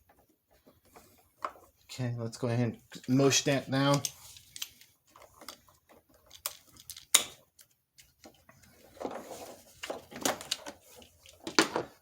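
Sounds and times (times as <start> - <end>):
hands rustling with wiring: 0.0 - 12.0.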